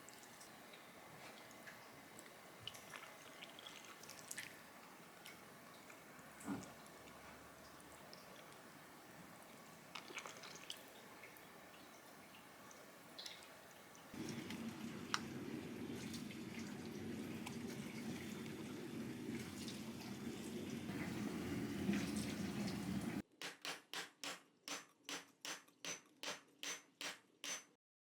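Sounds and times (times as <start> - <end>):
water dripping: 0.0 - 23.2
water running and bubbling: 0.0 - 23.2.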